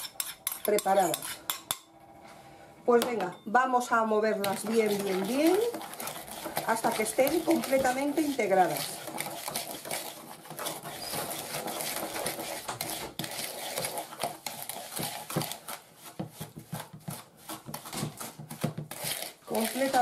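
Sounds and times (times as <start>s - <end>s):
metal spoon scraping a bowl: 0.0s - 1.9s, 4.3s - 20.0s.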